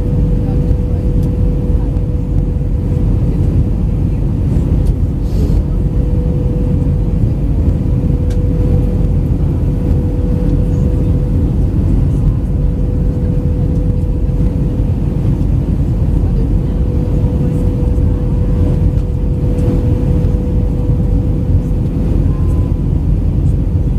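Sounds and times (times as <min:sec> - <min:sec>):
aircraft cabin rumble: 0:00.0 - 0:23.9
steady hum: 0:00.0 - 0:23.9.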